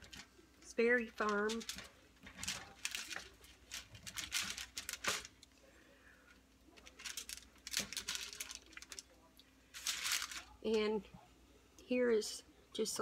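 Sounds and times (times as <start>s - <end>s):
wax paper and foil crinkling: 0.0s - 11.0s.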